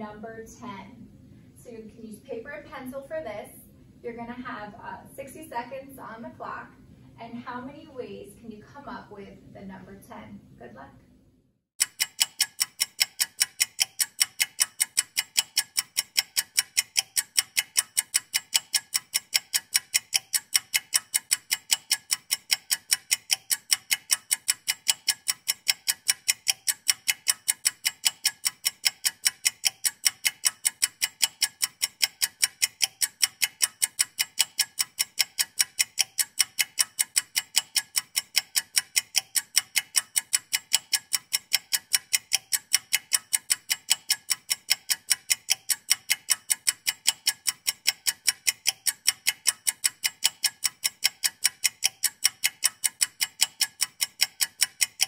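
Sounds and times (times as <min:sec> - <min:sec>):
clock ticking: 0:04.1 - 0:06.4, 0:11.8 - 0:55.0.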